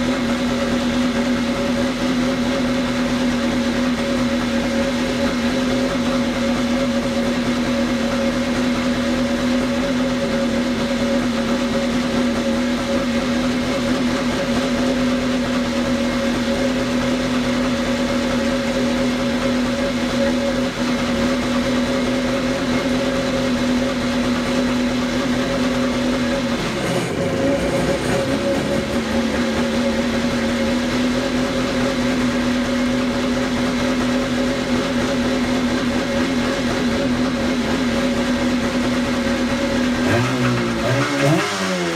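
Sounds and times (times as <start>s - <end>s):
jet ski engine running: 0.0s - 41.9s.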